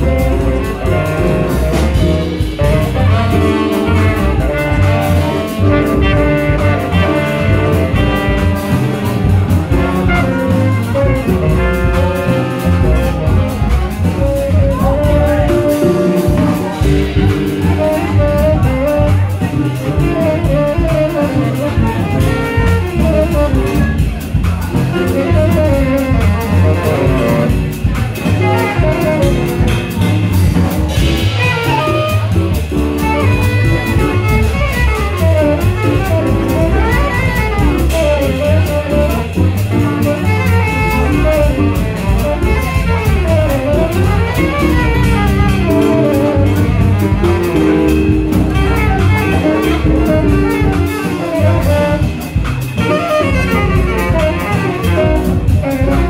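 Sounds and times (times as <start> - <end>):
drum kit with cymbals: 0.0 - 56.0
keyboard: 0.0 - 56.0
upright double bass: 0.0 - 56.0.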